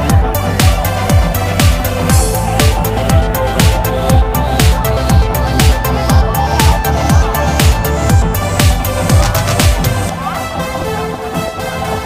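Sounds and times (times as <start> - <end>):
deep kick drum: 0.0 - 10.1
electronic dance music: 0.0 - 12.0.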